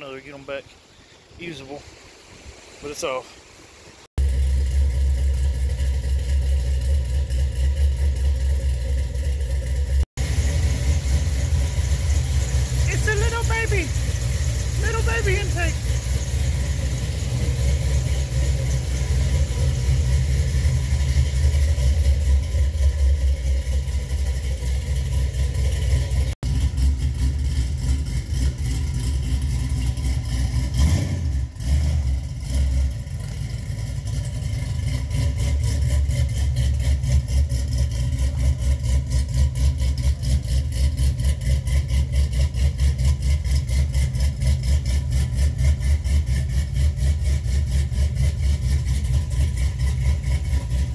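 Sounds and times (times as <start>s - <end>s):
pickup engine idling: 4.2s - 50.9s.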